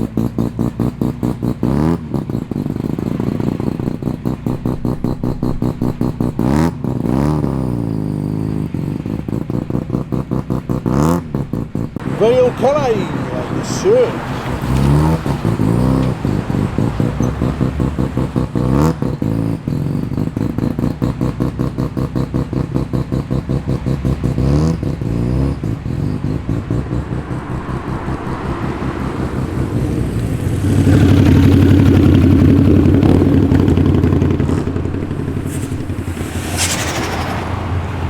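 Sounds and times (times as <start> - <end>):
car engines idling unevenly: 0.0 - 38.0
loud engine revving: 0.0 - 38.0.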